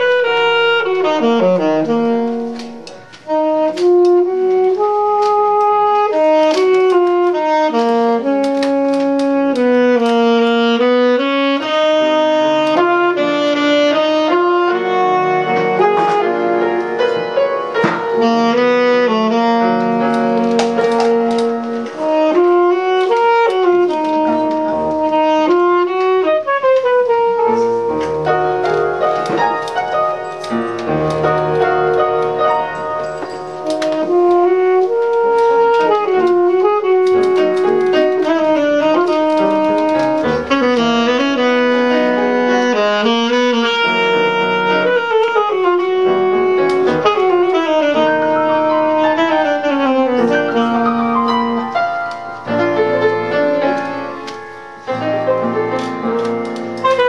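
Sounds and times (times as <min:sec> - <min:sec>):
piano accompaniment: 0:00.0 - 0:57.0
saxophone melody: 0:00.0 - 0:57.0.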